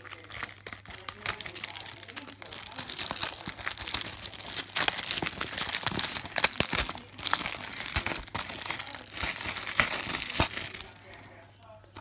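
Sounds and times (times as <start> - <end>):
cellophane wrap crinkling: 0.0 - 12.0.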